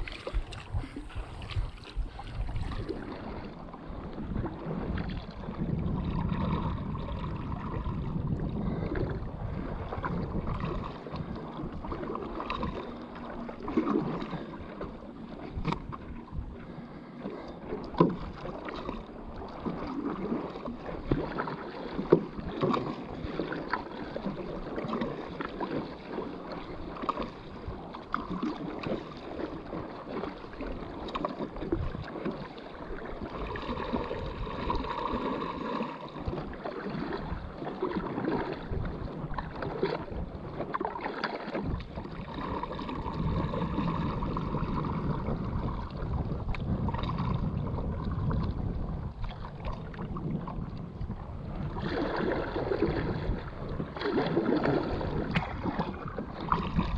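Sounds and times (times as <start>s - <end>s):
paddle splashing in water: 0.0s - 56.9s
water lapping against board: 0.0s - 56.9s.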